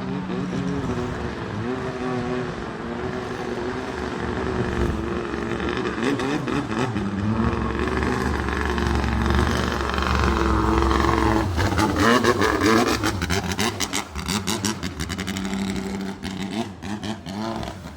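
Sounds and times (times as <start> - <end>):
low rumble: 0.0 - 16.8
boat engine revving: 0.0 - 17.9.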